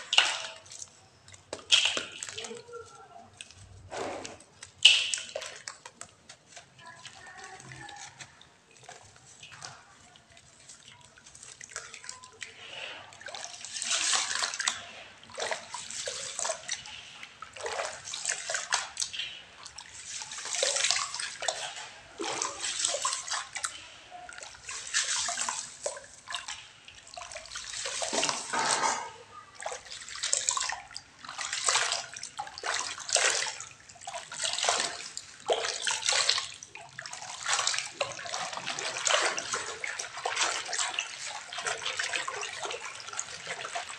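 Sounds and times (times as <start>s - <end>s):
water sloshing and splashing: 0.0s - 43.9s.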